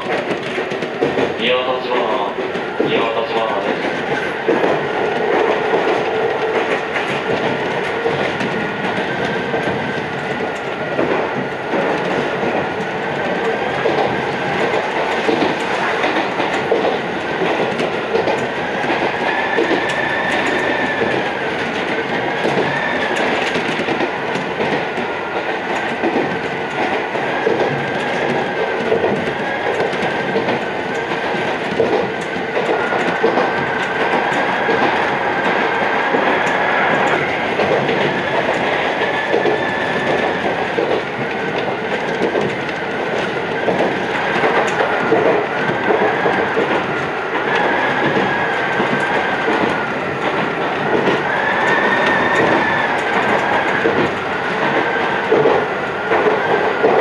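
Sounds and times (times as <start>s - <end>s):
electric train running: 0.0s - 57.0s
rail joint clicks: 0.0s - 57.0s.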